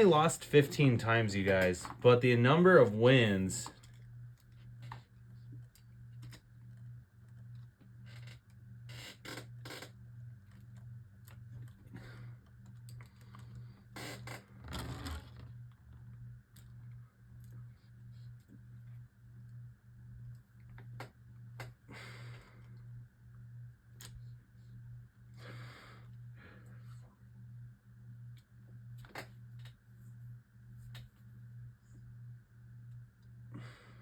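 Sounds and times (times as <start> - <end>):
low pulsing hum: 0.0 - 34.0.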